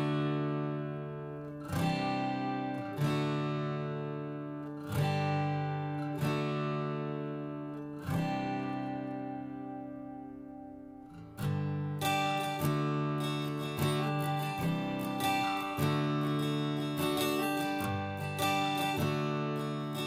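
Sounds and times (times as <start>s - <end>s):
acoustic guitar chords strummed: 0.0s - 20.0s.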